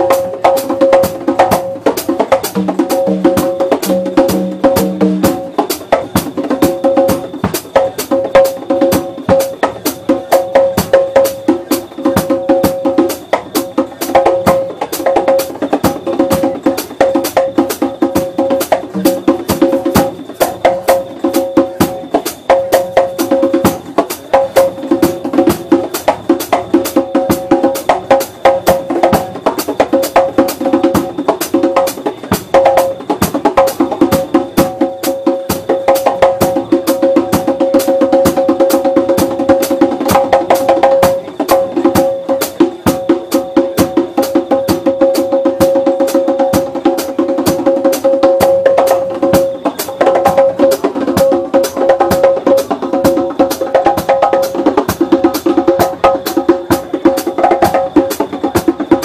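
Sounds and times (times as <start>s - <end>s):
fast drum kit playing: 0.0s - 59.0s.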